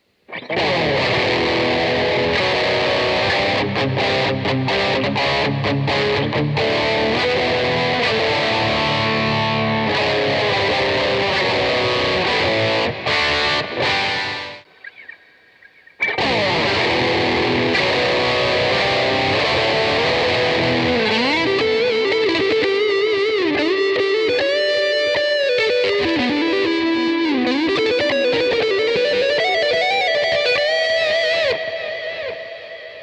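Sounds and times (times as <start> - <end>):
distorted electric guitar: 0.0 - 33.0.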